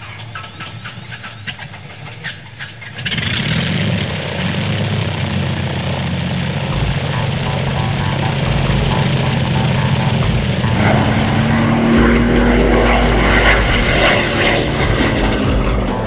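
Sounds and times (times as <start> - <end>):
aircraft engine starting and running: 0.0 - 16.0.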